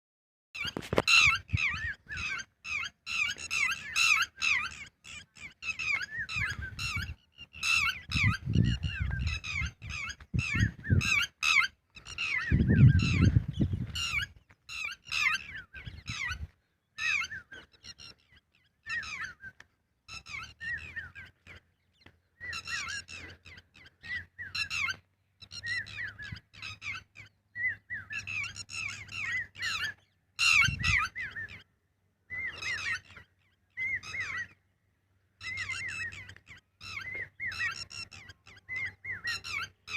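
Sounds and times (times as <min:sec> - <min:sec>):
lapwing calling: 0:00.6 - 0:39.9.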